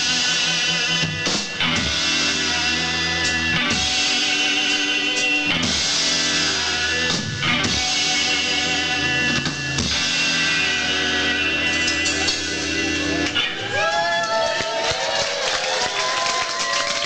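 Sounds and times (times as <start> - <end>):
rock band playing live: 0.0 - 14.1
bass line: 0.0 - 14.4
electric guitars: 0.0 - 17.0.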